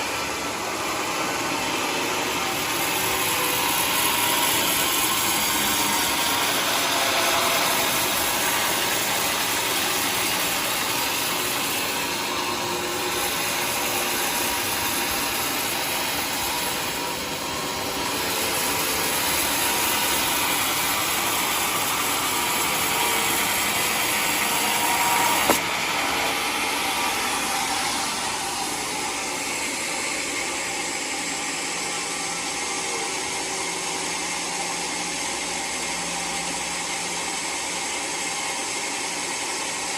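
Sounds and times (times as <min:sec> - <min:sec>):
sawmill blade cutting log: 0:00.0 - 0:38.7.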